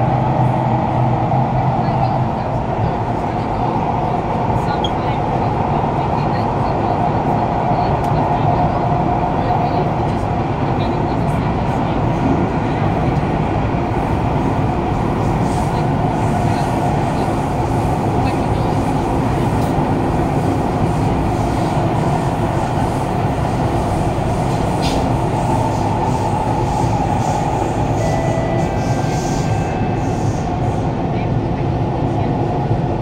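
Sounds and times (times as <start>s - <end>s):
metro train rumbling in tunnel: 0.0s - 33.0s.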